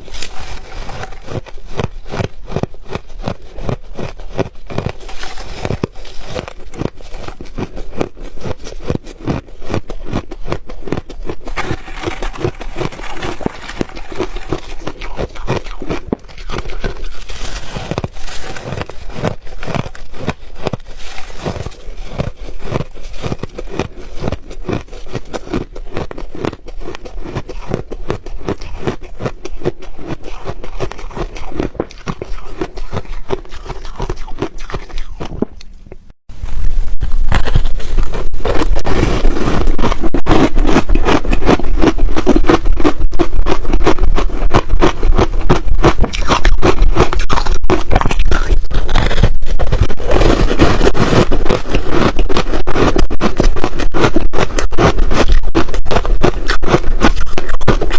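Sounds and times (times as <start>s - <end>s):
ice being chewed: 0.0s - 35.8s, 36.4s - 57.9s.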